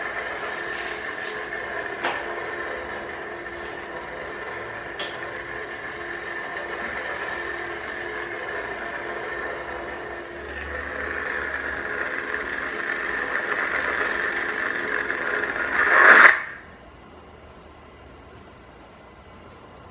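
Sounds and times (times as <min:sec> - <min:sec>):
lightsaber electronic hum: 0:00.0 - 0:16.8.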